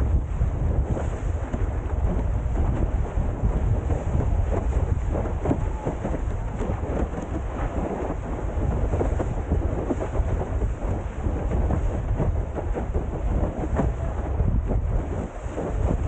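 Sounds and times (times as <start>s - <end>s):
board spray on choppy water: 0.0s - 16.0s
wind buffeting microphone: 0.0s - 16.0s.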